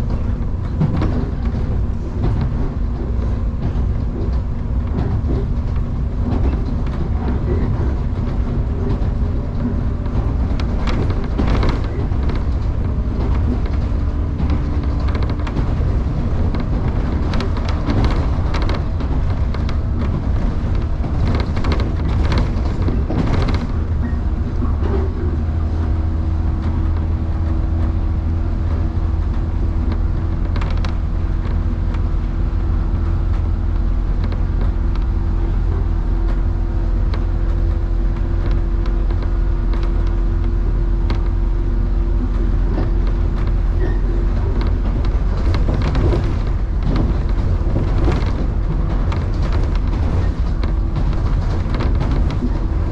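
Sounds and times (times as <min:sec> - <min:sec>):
train low rumble: 0:00.0 - 0:52.9
wheel clicks over rails: 0:00.0 - 0:52.9.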